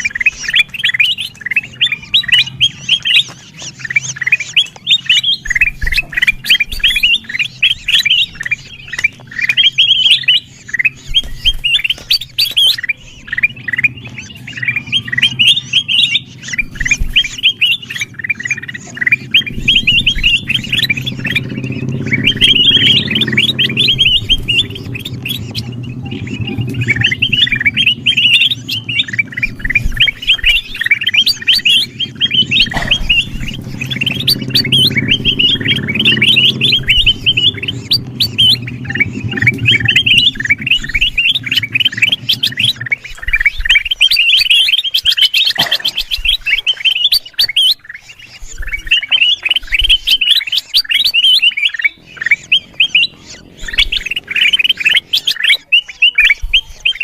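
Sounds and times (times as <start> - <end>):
bulbuls chirping: 0.0 - 57.0
low steady hum: 0.0 - 57.0.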